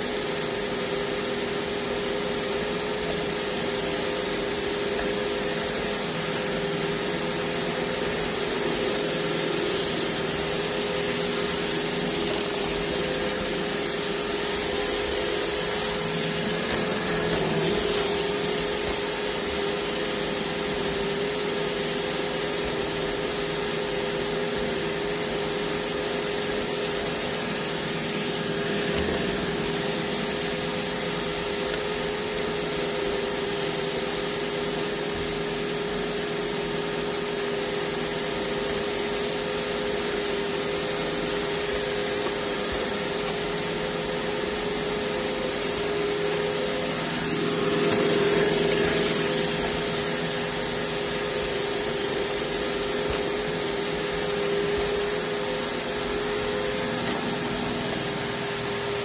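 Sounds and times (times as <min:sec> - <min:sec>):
robot vacuum running: 0:00.0 - 0:59.0.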